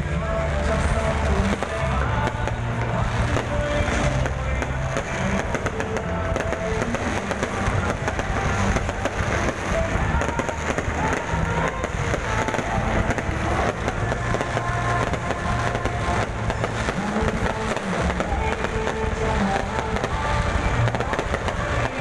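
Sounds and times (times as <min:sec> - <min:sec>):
fireworks bursting and crackling: 0:00.0 - 0:22.0
loud background music: 0:00.0 - 0:22.0.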